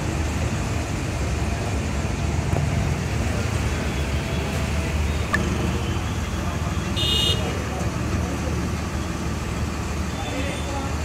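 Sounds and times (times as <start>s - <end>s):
low rumble of motor vehicles: 0.0s - 11.0s.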